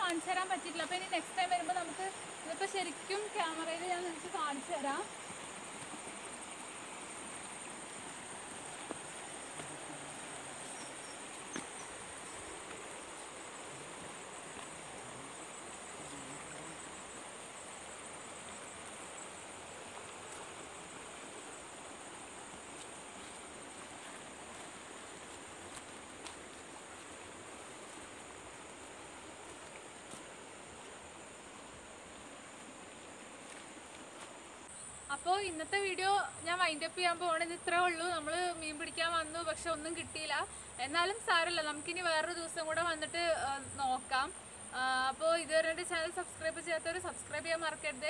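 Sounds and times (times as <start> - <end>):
insects droning: 0.0 - 48.0
outdoor air hiss: 0.0 - 48.0.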